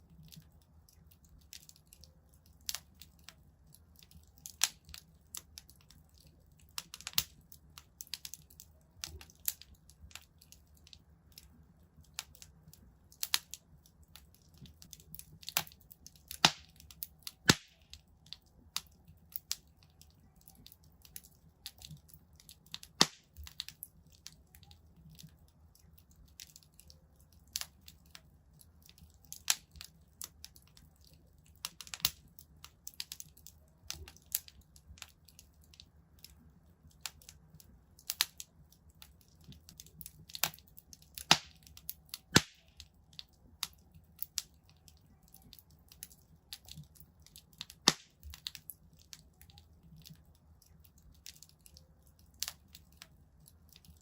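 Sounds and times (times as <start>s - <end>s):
fireplace fire crackling: 0.0s - 54.0s
low rumble of flames: 0.0s - 54.0s.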